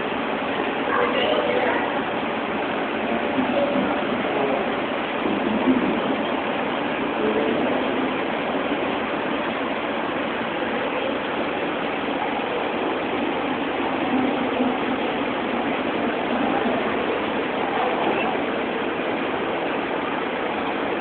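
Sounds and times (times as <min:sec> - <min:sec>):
indoor hall background din: 0:00.0 - 0:21.0.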